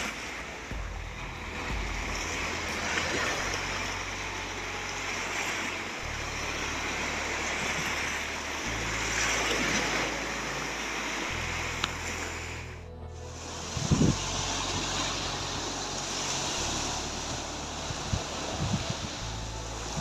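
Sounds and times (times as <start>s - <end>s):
waves breaking on sandy beach: 0.0s - 12.8s, 13.4s - 20.0s
low sustained music tones: 0.0s - 20.0s.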